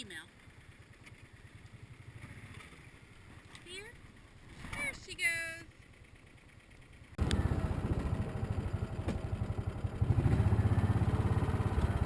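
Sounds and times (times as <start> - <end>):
small vehicle engine running: 0.3 - 12.0.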